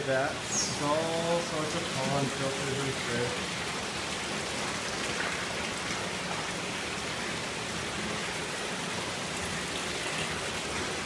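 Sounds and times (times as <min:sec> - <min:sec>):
running and splashing water: 0:00.0 - 0:11.0.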